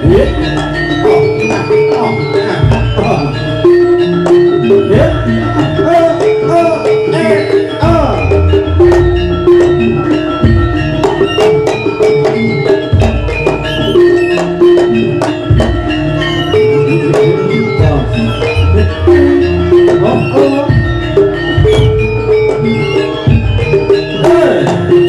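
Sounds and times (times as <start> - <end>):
ringing tuned metal percussion: 0.0 - 25.0.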